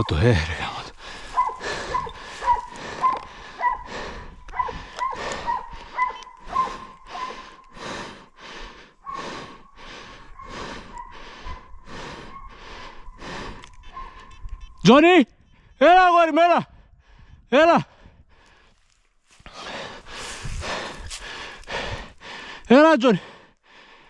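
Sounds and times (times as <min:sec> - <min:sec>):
person breathing hard: 0:00.2 - 0:14.3, 0:16.7 - 0:24.0.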